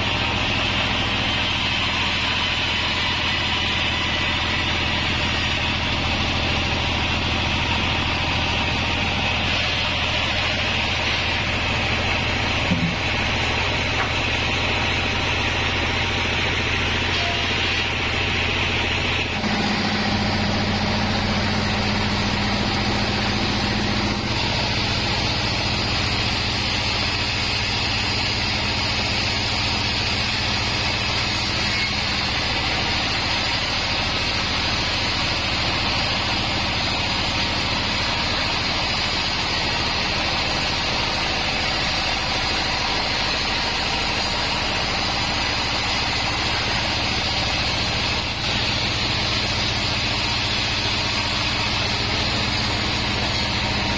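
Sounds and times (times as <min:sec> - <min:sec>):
band sawmill machine drone: 0:00.0 - 0:53.9.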